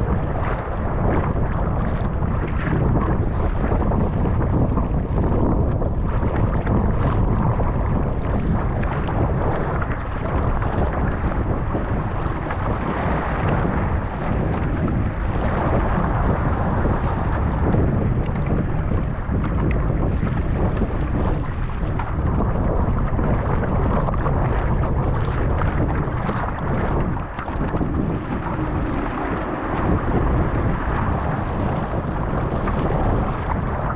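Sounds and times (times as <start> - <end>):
rushing water and waves: 0.0 - 33.9
wind buffeting microphone: 0.0 - 33.9.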